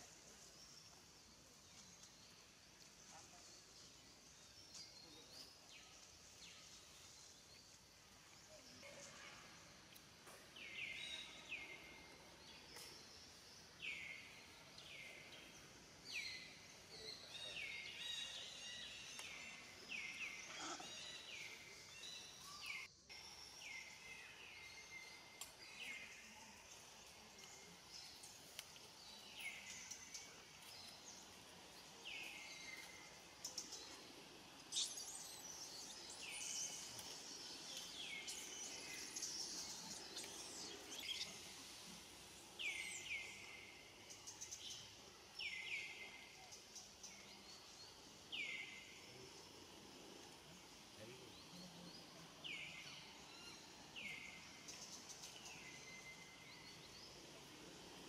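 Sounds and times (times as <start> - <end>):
faint outdoor background noise: 0.0 - 58.0.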